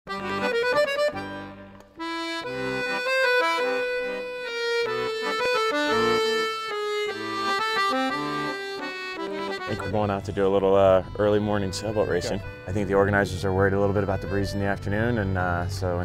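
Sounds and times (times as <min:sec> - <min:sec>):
background music with held notes: 0:00.1 - 0:16.0.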